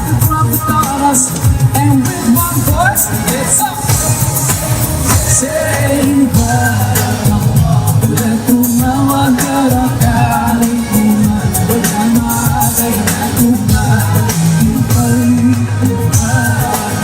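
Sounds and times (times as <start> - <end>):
live pop song with band: 0.0 - 17.0.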